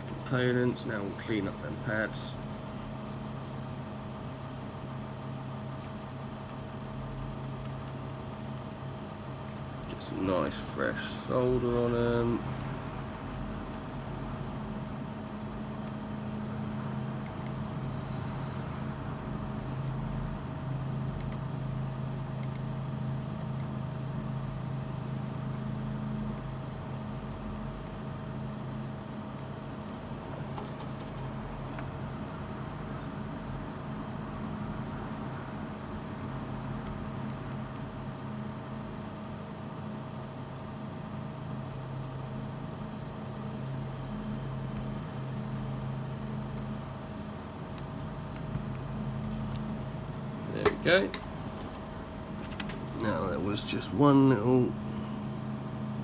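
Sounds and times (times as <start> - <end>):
fan or motor humming: 0.0 - 56.0.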